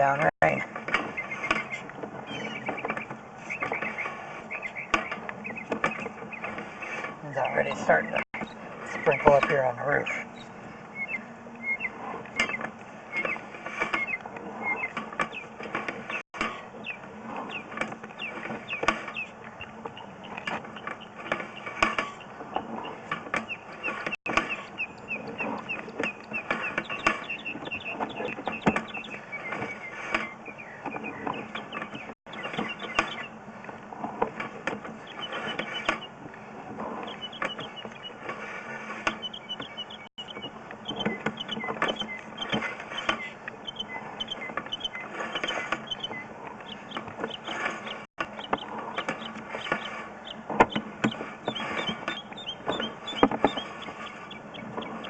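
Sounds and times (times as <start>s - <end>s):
cable squeaking and rattling on reel: 0.0s - 55.0s.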